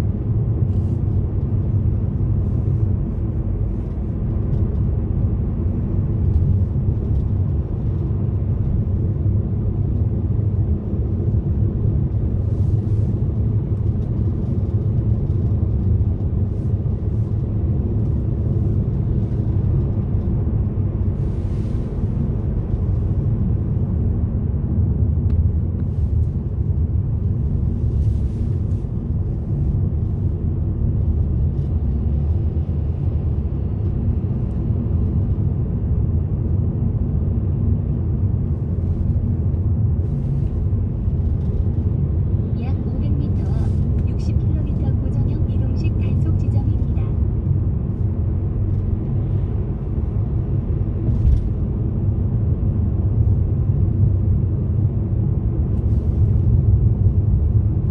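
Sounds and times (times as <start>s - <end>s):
car engine and tyre rumble: 0.0s - 57.9s.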